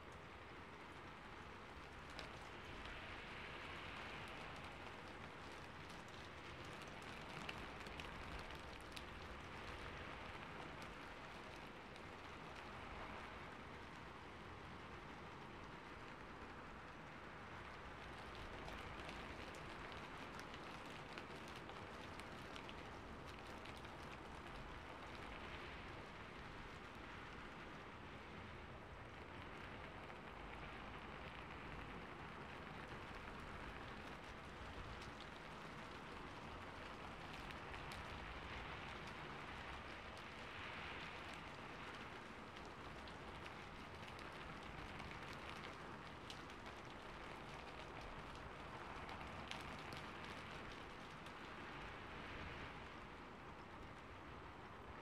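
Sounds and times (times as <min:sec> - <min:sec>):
steady rainfall with drop ticks: 0:00.0 - 0:55.0.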